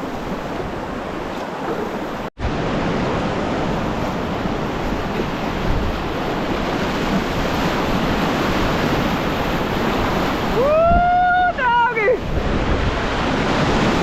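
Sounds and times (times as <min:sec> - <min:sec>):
river rapid rushing: 0:00.0 - 0:14.0
wind buffeting microphone: 0:00.0 - 0:14.0.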